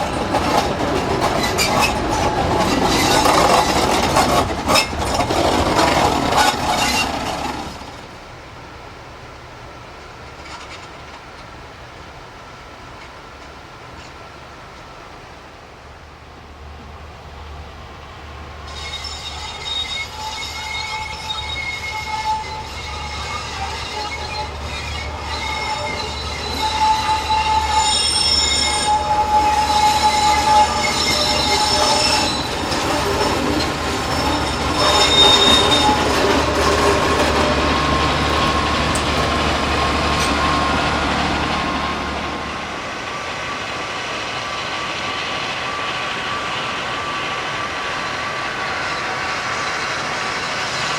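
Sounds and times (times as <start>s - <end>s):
train wheels squealing on rails: 0.0s - 8.2s, 10.0s - 11.6s, 17.5s - 50.9s
train rolling noise: 0.0s - 50.9s.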